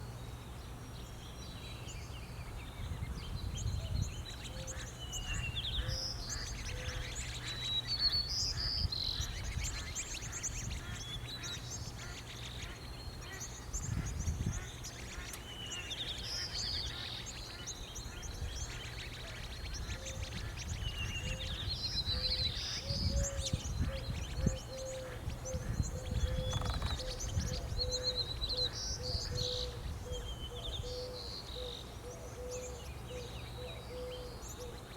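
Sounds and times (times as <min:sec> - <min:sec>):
songbirds chirping and singing: 0:00.0 - 0:34.9.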